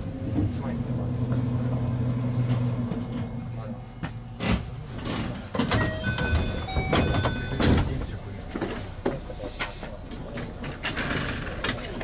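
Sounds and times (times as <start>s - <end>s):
electric train humming: 0.0s - 10.6s.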